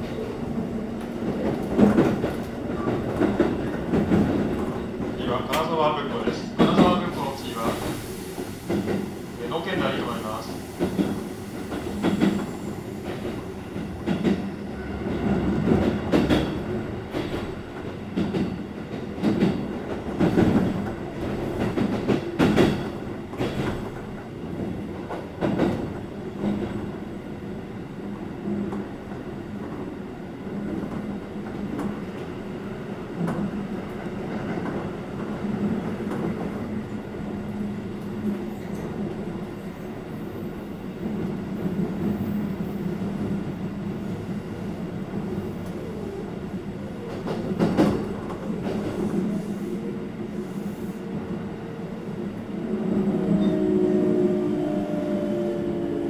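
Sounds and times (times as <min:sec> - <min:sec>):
train rumble and hum: 0:00.0 - 0:56.0.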